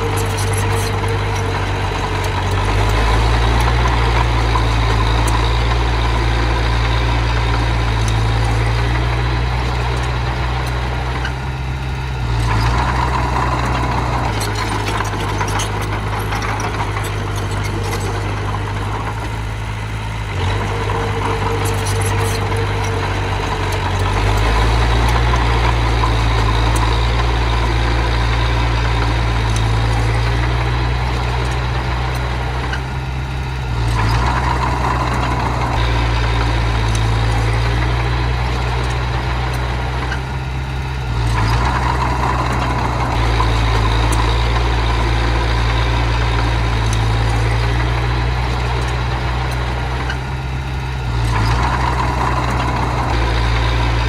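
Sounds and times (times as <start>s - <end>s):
earthmoving machine diesel engine: 0.0s - 54.0s.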